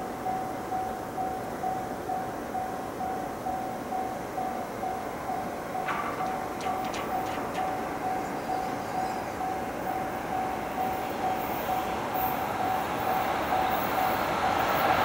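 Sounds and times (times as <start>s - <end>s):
freight train rail rumble: 0.0s - 15.0s.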